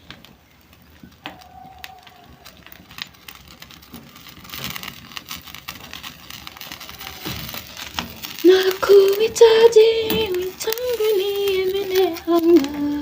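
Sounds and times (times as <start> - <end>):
fire hissing: 0.0 - 13.0
open fire crackling: 0.0 - 13.0.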